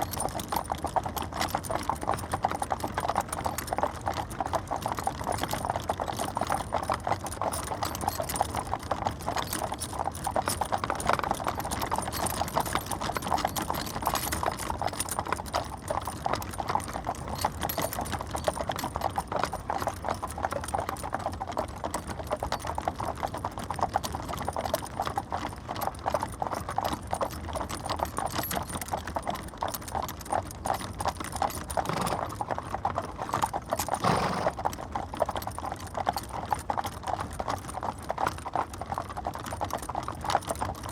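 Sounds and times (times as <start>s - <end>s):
hooves clip-clopping: 0.0s - 40.9s.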